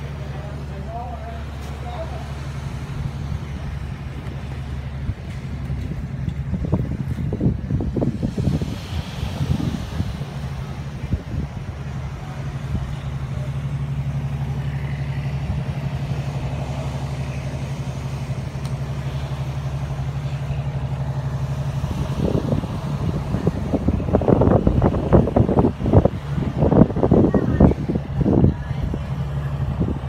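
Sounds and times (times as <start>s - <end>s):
engine humming steadily: 0.0s - 30.0s
loud irregular noise: 0.0s - 30.0s.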